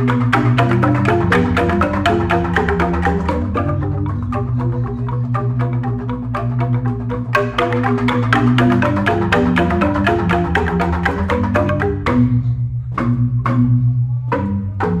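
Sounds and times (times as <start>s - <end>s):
bamboo xylophone strikes: 0.0s - 15.0s.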